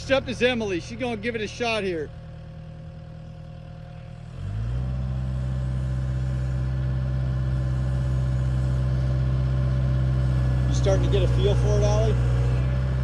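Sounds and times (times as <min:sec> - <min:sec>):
diesel engine revving up: 0:00.0 - 0:13.0.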